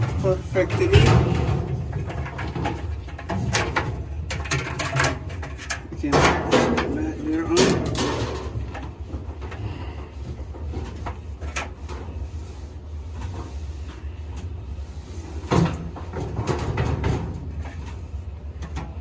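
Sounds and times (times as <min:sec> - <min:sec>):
dryer parts clunking and knocking: 0:00.0 - 0:19.0.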